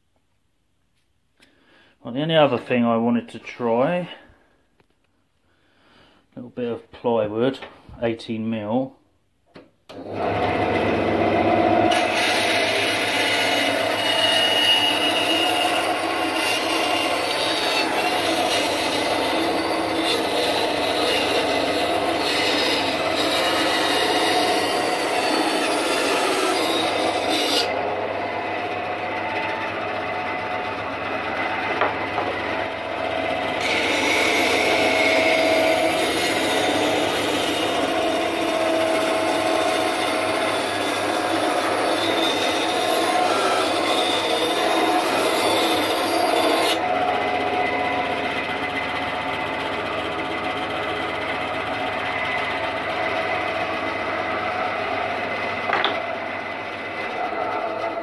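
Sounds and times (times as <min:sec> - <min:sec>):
bandsaw cutting plywood: 0:09.9 - 0:58.0.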